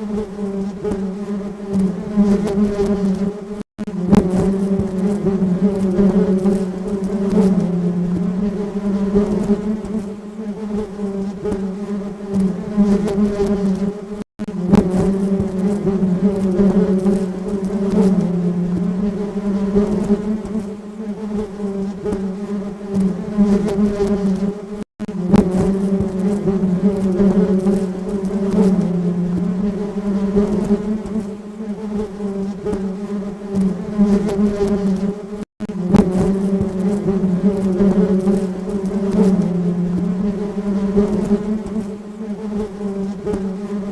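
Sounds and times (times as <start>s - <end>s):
honeybees buzzing: 0.0s - 43.9s.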